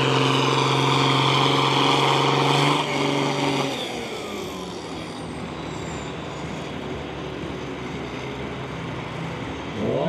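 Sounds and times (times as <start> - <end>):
tractor engine running at low revs: 0.0 - 10.0.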